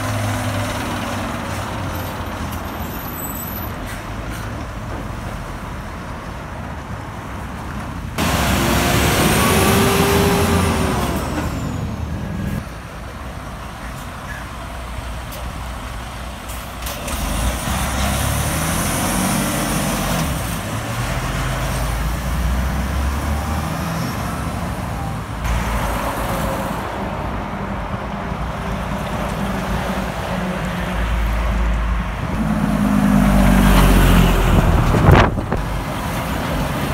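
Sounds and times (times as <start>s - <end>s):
diesel trucks driving past: 0.0s - 36.9s.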